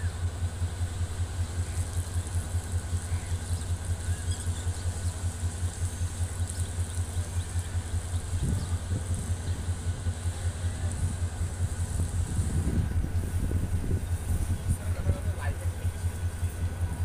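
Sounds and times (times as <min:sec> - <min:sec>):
diesel train engine idling: 0:00.0 - 0:17.0.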